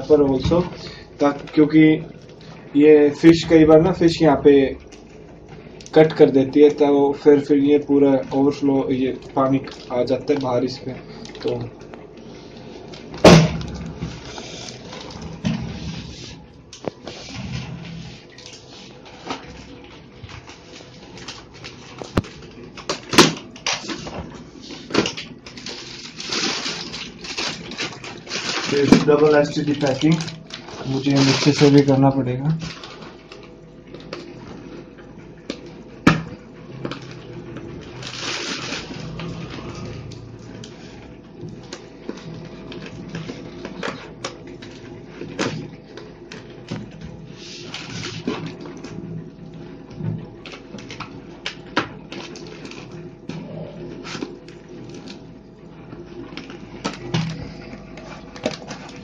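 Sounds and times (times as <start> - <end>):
plastic bag rustling and crinkling: 7.6 - 34.9, 36.7 - 49.2, 50.2 - 59.0.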